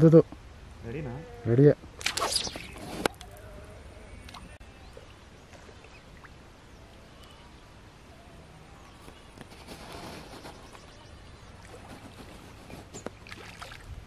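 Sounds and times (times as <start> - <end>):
low background noise: 0.0 - 14.0
faint distant bird calls: 0.3 - 13.8.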